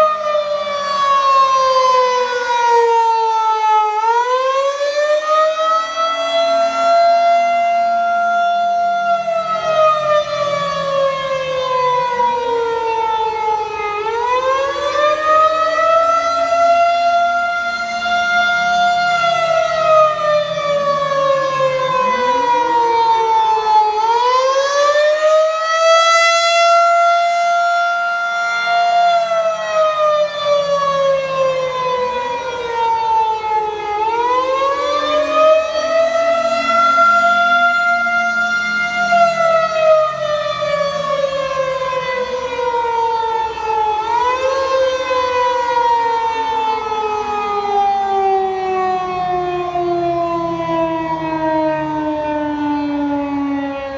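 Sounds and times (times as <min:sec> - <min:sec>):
warning siren wailing: 0:00.0 - 0:53.9.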